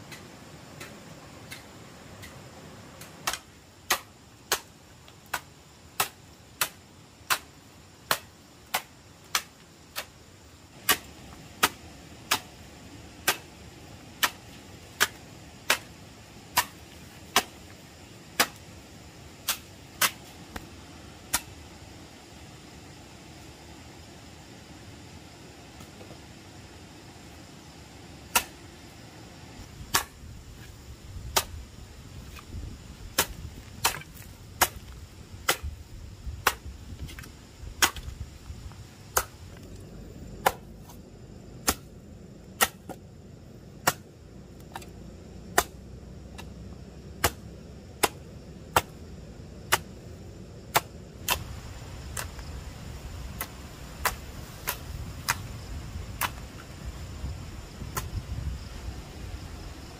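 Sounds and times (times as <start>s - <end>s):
low steady background noise: 0.0s - 59.9s.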